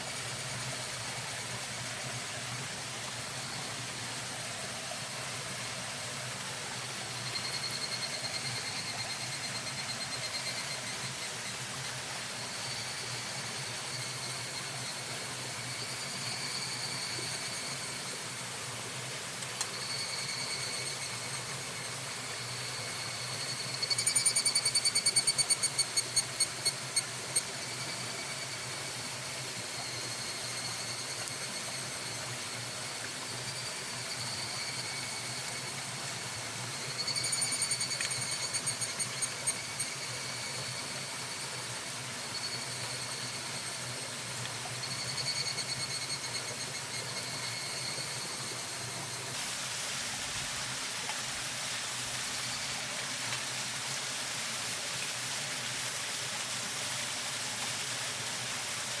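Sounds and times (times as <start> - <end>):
cicada ringing pulses: 6.7 - 59.0
high-pitched insect drone: 6.7 - 59.0.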